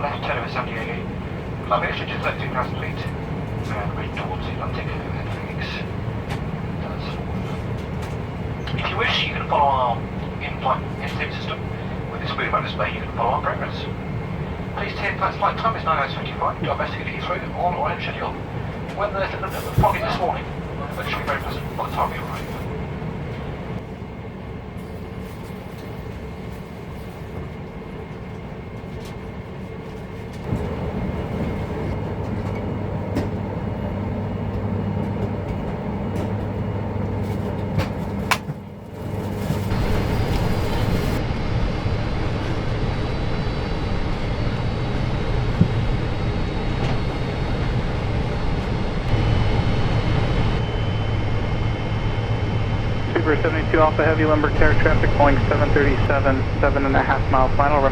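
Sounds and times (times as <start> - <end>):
aircraft engine rumble in cabin: 0.0 - 57.9.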